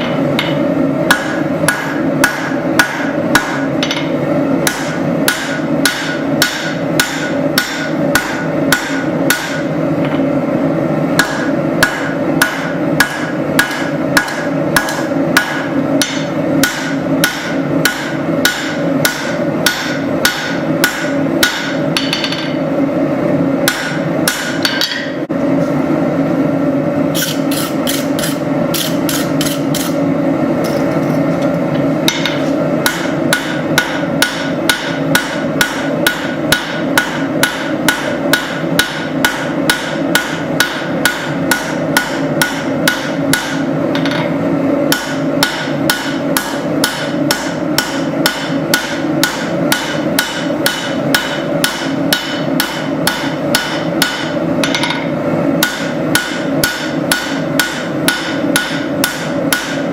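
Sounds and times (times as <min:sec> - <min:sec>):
continuous steady roar: 0:00.0 - 0:59.9
hammer ringing on anvil: 0:00.4 - 0:09.7, 0:11.2 - 0:22.6, 0:23.6 - 0:25.2, 0:32.1 - 0:44.3, 0:44.9 - 0:59.9.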